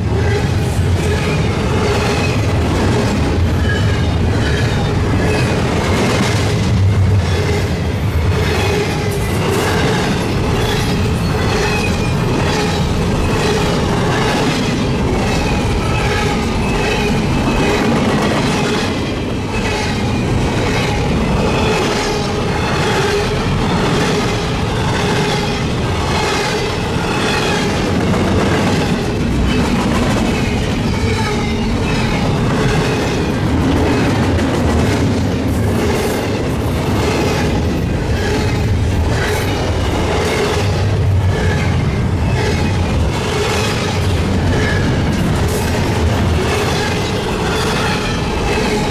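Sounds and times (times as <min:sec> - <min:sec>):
freight train cars rolling past: 0:00.0 - 0:48.9
steel wheels clicking on rail joints: 0:00.2 - 0:48.9.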